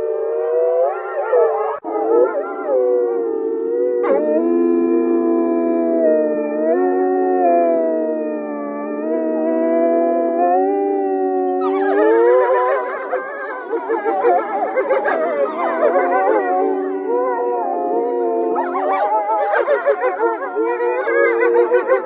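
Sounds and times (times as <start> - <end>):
wolves howling: 0.0 - 22.0.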